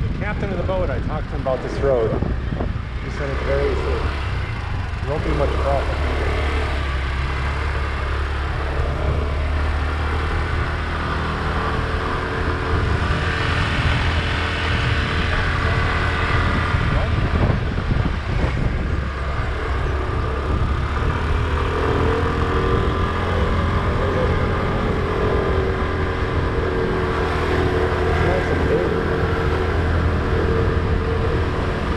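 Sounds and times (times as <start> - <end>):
wind rumble on microphone: 0.0 - 31.9
scooter passing: 1.3 - 31.9
motor scooter engine running: 2.1 - 31.9.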